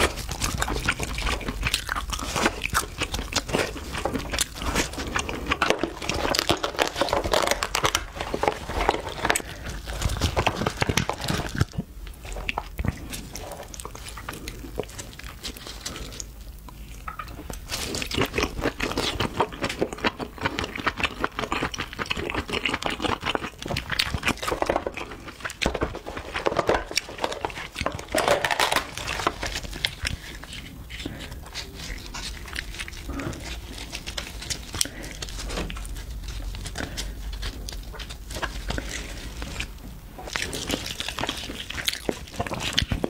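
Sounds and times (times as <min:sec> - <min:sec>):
crab shell squelching and crackling: 0:00.0 - 0:43.0
wet chewing and mouth smacking: 0:00.0 - 0:43.0.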